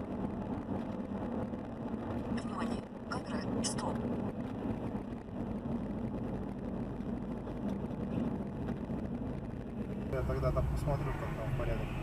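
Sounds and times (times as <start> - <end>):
car engine: 0.0 - 12.0
road rumble: 0.0 - 12.0.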